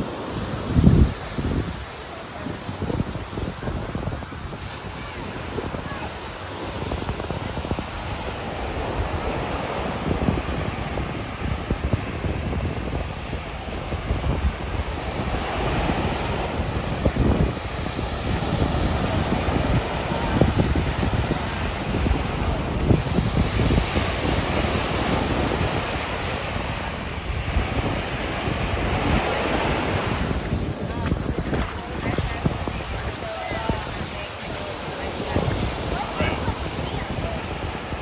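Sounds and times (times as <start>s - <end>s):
surf washing up a sandy beach: 0.0s - 38.0s
wind buffeting the microphone: 0.0s - 38.0s.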